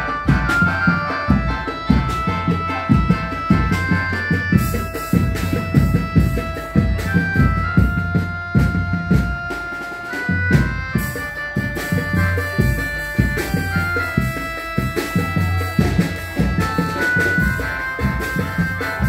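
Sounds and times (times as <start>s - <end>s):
heavy bass drum beats: 0.0s - 19.0s
keyboard melody of held notes: 0.0s - 19.0s.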